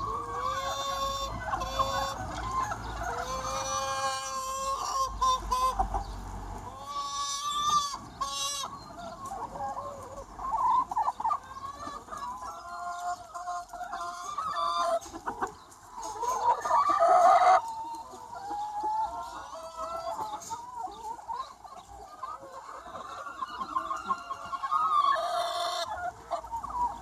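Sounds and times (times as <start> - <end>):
chickens clucking: 0.0 - 27.0
drawn-out chicken call: 0.0 - 27.0.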